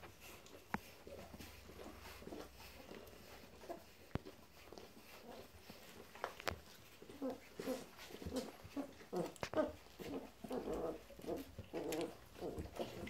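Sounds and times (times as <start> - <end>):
puppies whimpering: 0.2 - 13.0.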